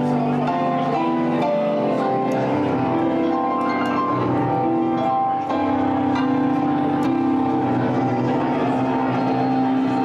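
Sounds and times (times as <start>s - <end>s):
electronic keyboard chords: 0.0s - 10.0s.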